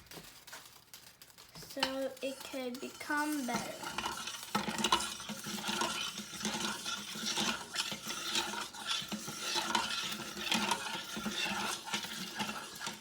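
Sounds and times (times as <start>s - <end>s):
spoon stirring in a bowl: 0.7s - 13.0s.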